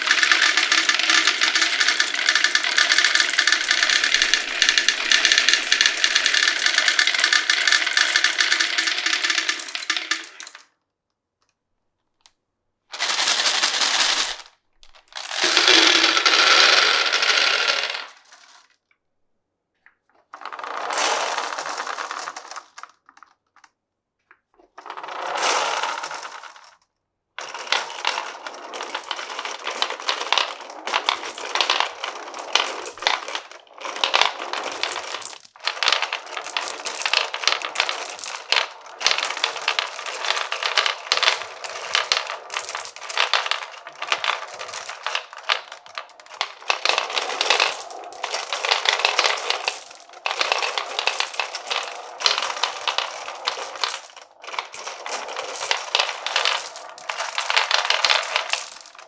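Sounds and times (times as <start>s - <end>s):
marbles clattering down wooden run: 0.0s - 10.6s, 13.0s - 18.6s, 20.4s - 22.8s, 24.8s - 26.8s, 27.4s - 59.0s.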